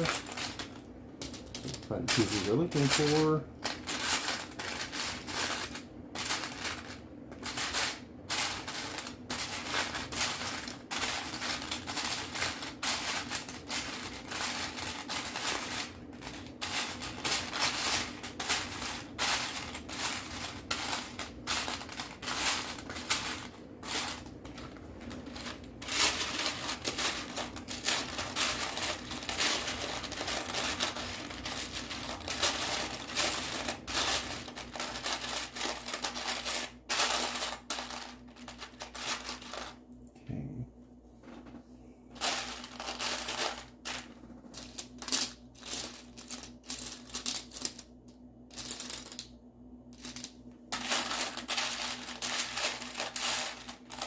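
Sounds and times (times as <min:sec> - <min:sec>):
plastic bricks clattering: 0:00.0 - 0:39.8, 0:50.0 - 0:54.0.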